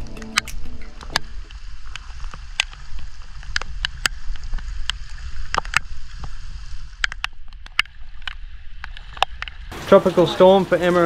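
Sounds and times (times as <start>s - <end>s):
raindrops tapping camera: 0.0s - 11.0s.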